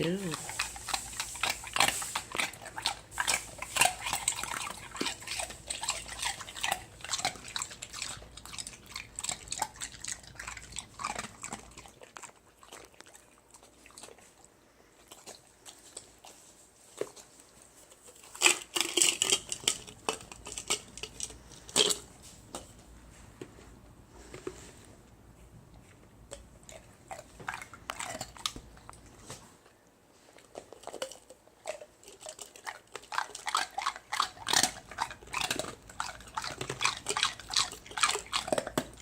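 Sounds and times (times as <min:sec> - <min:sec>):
dog crunching ice cubes: 0:00.0 - 0:14.4, 0:15.1 - 0:22.2, 0:26.3 - 0:29.0, 0:30.4 - 0:39.0.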